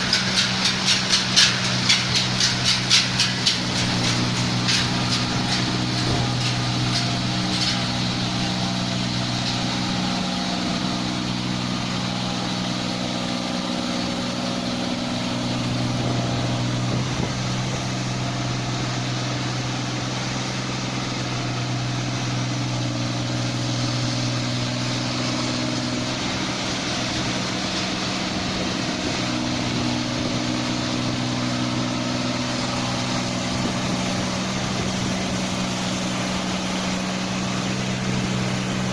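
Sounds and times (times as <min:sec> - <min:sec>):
combine harvester diesel engine: 0:00.0 - 0:38.9.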